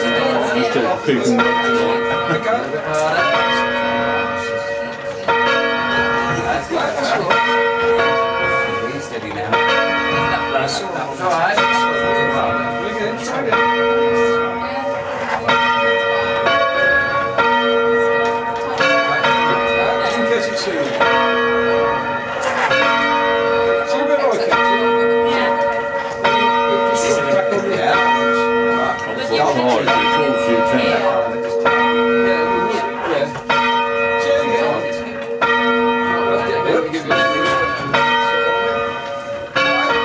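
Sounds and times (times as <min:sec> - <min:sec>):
church bells ringing: 0:00.0 - 0:40.0.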